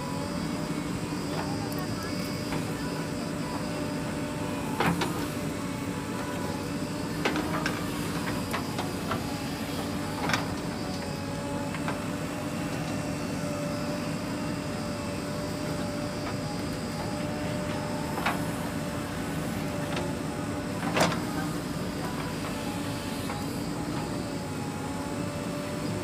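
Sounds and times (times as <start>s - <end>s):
diesel engine under load: 0.0s - 26.0s.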